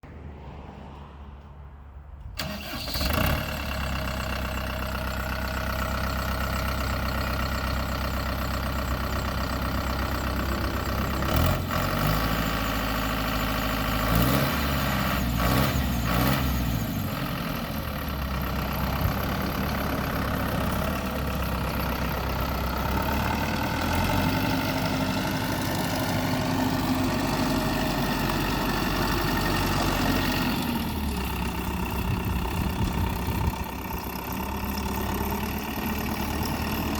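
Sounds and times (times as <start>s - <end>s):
diesel tractor engine running: 0.0s - 36.9s.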